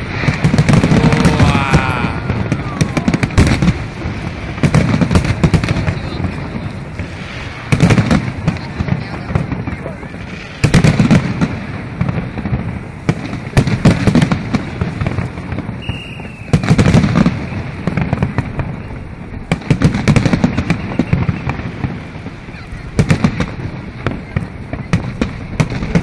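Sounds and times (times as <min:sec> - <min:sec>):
fireworks booming: 0:00.0 - 0:26.0
fireworks crackling: 0:00.0 - 0:26.0.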